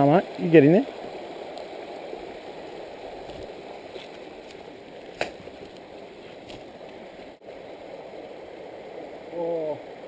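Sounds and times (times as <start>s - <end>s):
creek flowing: 0.0s - 10.0s.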